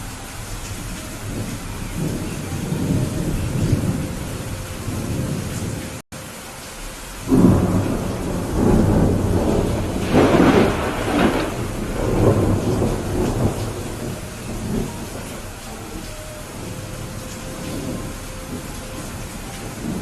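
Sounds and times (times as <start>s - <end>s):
steady rain: 0.0s - 20.0s
rolling thunder: 0.4s - 5.8s, 7.3s - 20.0s.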